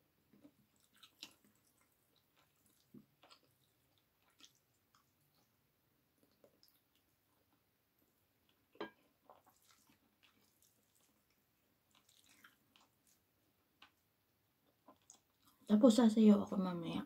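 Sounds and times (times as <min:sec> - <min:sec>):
person chewing food: 0:00.3 - 0:15.7.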